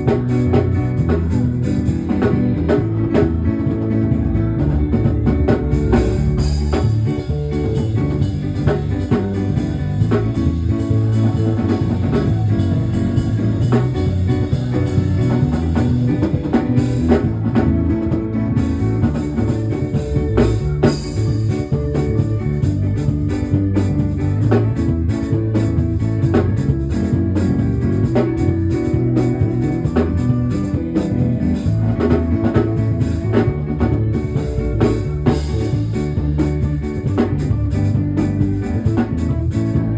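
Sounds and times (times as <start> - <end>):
instrumental band music: 0.0 - 39.9.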